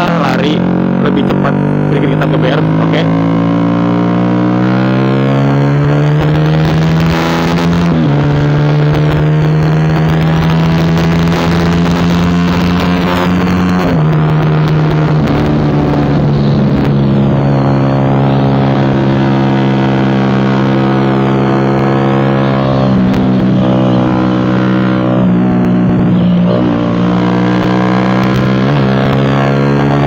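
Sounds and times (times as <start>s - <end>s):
motorcycle engine revving high: 0.0s - 30.0s.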